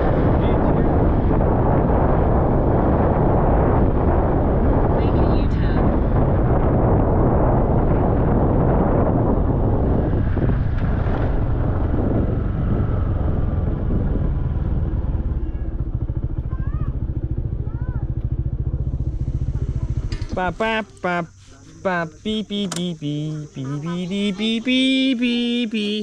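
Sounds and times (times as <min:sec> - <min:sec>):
wind rushing over microphone: 0:00.0 - 0:20.8
motorcycle engine running: 0:00.0 - 0:21.4.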